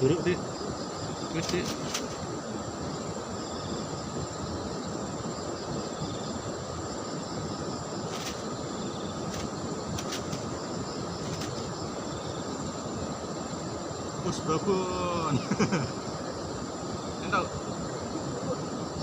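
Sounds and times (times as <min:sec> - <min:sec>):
insects chirping and droning: 0:00.0 - 0:19.0.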